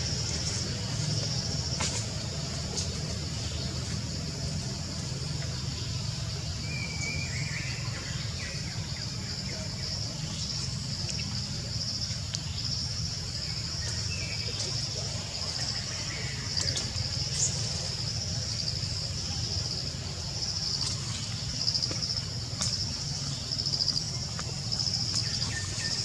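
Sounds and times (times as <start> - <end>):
high insect drone: 0.0 - 26.0.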